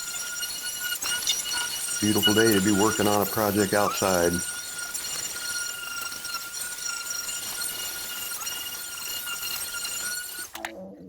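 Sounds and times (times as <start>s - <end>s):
electric sander whining: 0.0s - 10.6s.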